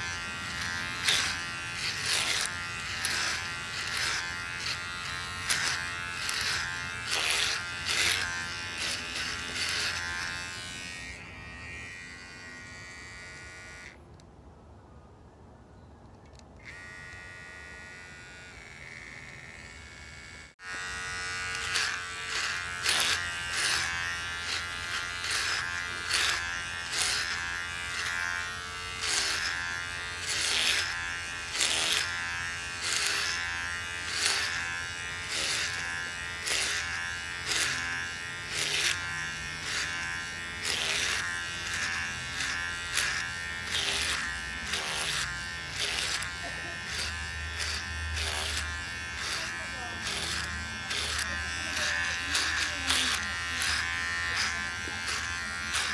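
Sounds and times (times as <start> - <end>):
clippers rasping through hair: 0.0 - 14.0, 16.6 - 55.9
electric hair clippers buzzing: 0.0 - 14.0, 16.6 - 55.9.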